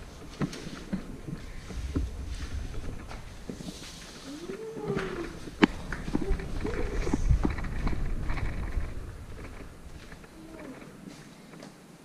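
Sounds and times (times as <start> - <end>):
camera handling rumble: 0.3 - 10.3.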